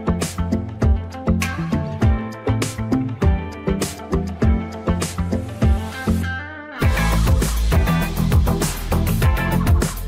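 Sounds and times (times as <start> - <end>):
music with guitar and beat: 0.0 - 10.0.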